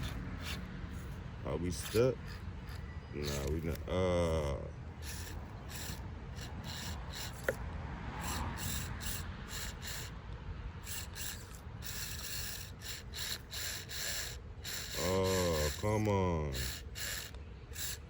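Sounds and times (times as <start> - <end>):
rc car scraping and rattling: 0.0 - 7.6, 8.2 - 10.2, 10.8 - 18.0.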